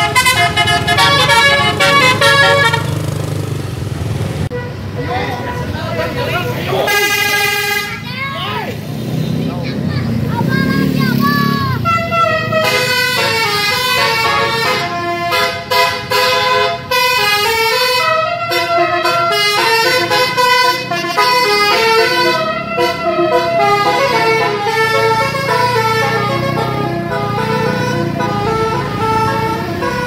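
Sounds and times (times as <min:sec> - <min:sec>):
bus musical air horn: 0:00.0 - 0:03.0, 0:04.5 - 0:08.1, 0:11.8 - 0:30.0.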